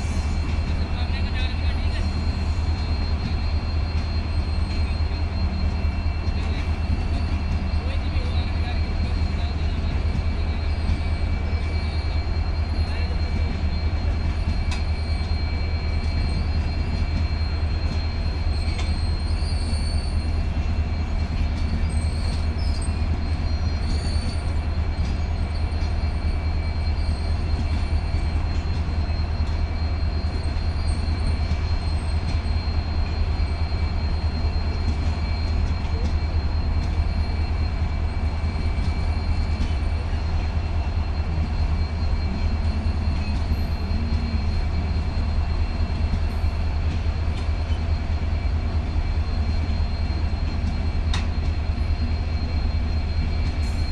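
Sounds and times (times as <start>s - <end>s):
high wheel squealing: 0.0s - 53.9s
train coaches rumbling: 0.0s - 53.9s.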